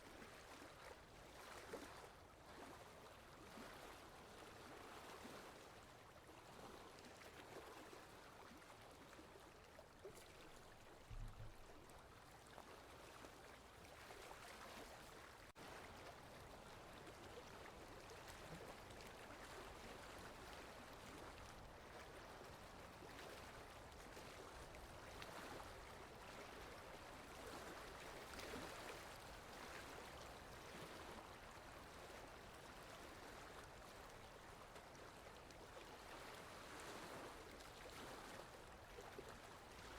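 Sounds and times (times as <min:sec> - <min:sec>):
water lapping at lake edge: 0:00.0 - 0:39.9.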